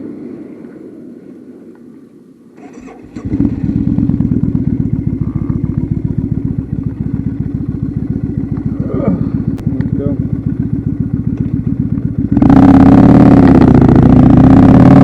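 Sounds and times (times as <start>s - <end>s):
motorcycle engine starting and idling: 2.5s - 15.0s.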